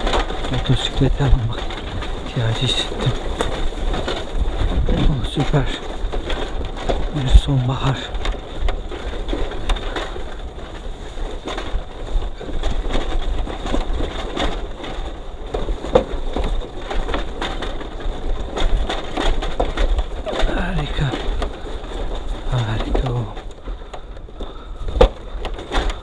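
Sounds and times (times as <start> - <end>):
dry leaves and twigs crunching: 0.0 - 26.0.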